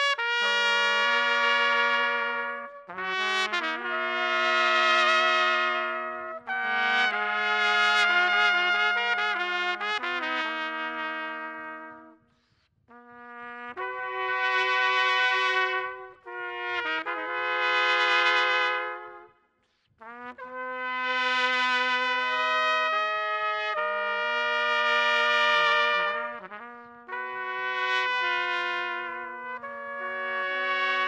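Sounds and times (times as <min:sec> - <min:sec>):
trumpet long-held notes: 0:00.0 - 0:12.2, 0:12.9 - 0:31.0.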